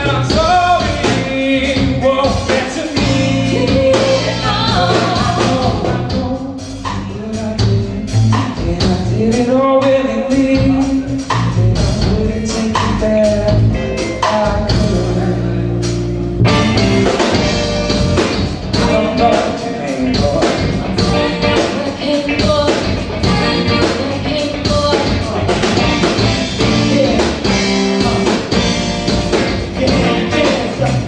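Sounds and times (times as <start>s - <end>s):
live rock band playing: 0.0s - 31.0s
regular drum beat: 0.0s - 31.0s.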